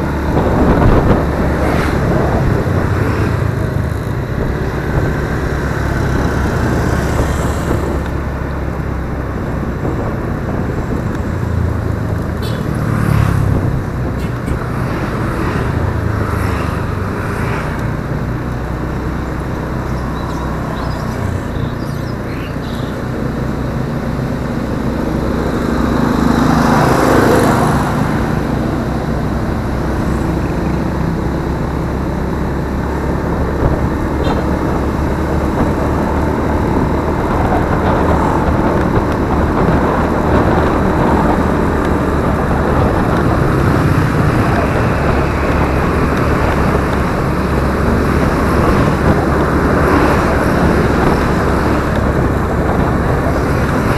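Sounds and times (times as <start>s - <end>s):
road and traffic noise: 0.0s - 53.9s
scooter engine running: 0.0s - 53.9s.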